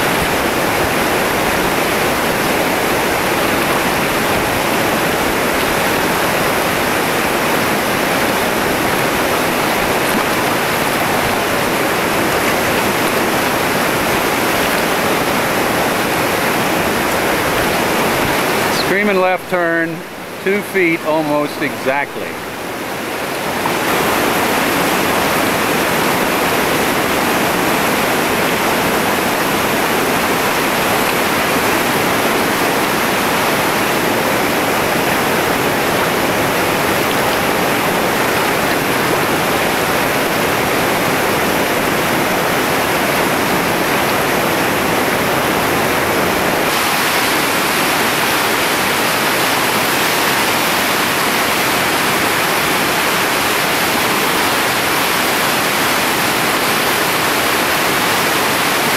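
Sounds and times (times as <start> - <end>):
roar of whitewater rapids: 0.0 - 58.9.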